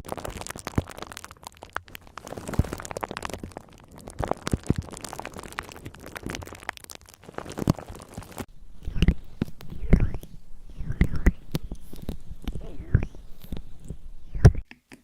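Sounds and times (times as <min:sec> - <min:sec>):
crackling and clicking: 0:00.0 - 0:15.0.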